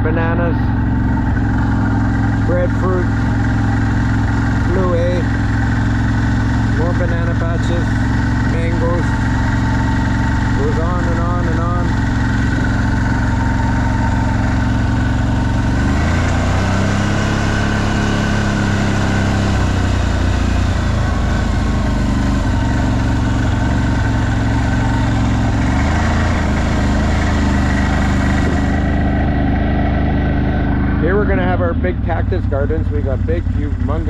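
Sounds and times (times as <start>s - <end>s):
engine running while driving: 0.0s - 34.0s.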